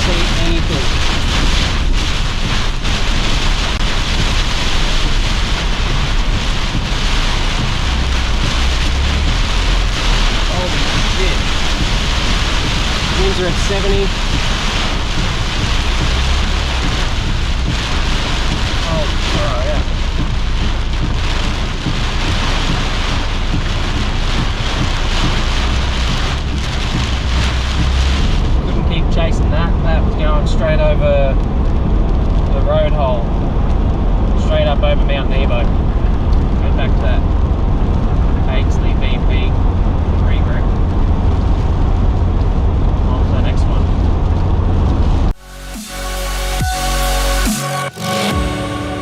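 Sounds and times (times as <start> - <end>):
wind roaring over microphone: 0.0 - 45.4
continuous low rumble: 0.0 - 45.5
heavy rain: 0.0 - 49.0.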